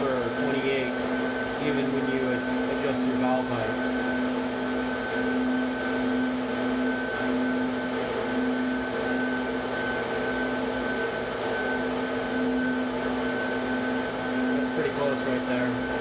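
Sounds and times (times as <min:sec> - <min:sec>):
vacuum motor whine: 0:00.0 - 0:16.0.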